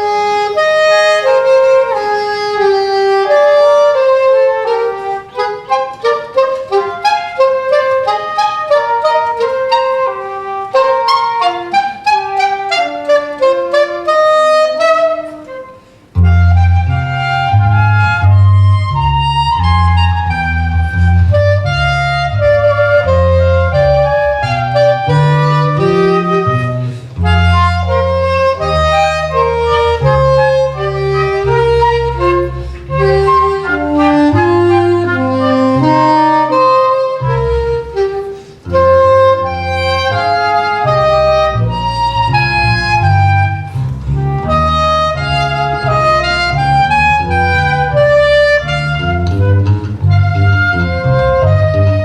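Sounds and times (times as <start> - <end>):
instrumental ensemble playing baroque music: 0.0 - 52.0.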